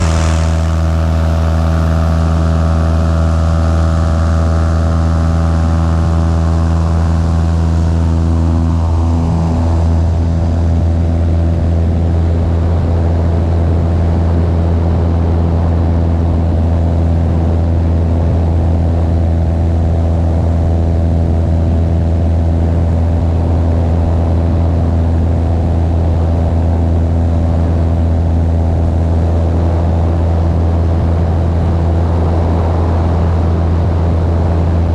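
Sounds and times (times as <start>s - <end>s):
propeller aircraft engine drone: 0.0s - 34.9s.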